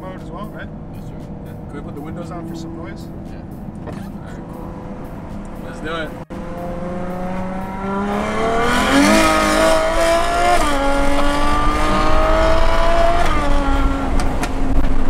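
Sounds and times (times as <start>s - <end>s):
car engine revving at full throttle: 0.0s - 15.0s.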